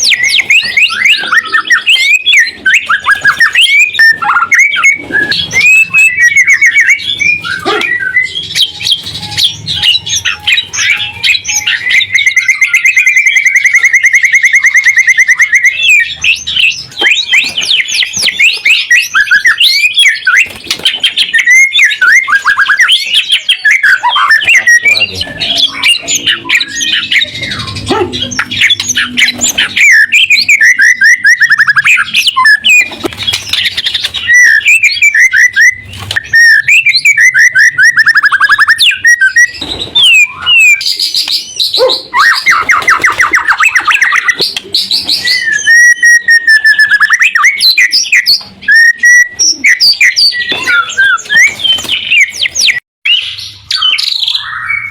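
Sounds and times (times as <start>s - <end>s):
bird singing trills and whistles: 0.0s - 54.9s.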